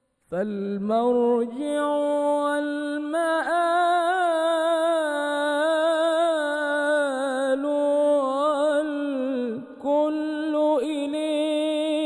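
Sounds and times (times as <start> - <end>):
man chanting unaccompanied: 0.3 - 12.0.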